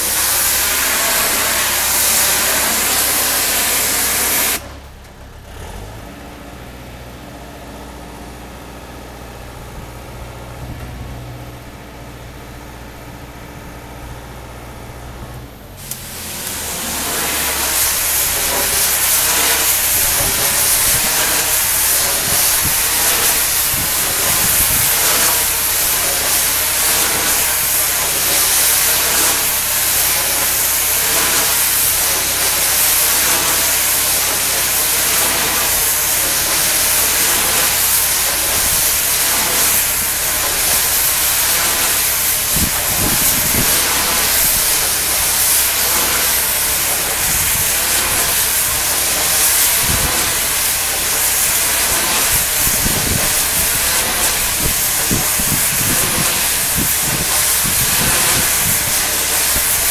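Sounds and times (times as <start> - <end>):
pressure washer spraying concrete: 0.0 - 5.0, 12.8 - 59.9.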